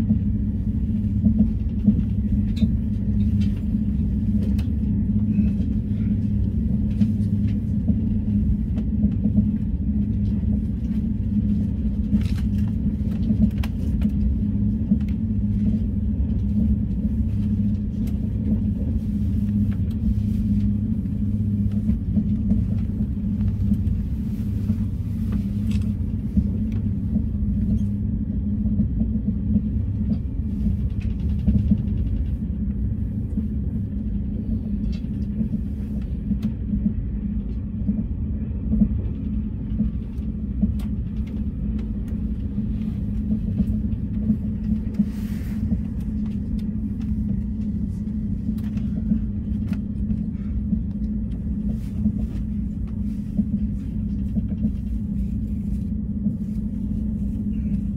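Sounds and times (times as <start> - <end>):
droning hum: 0.0 - 57.9
train interior rumble: 0.0 - 57.9.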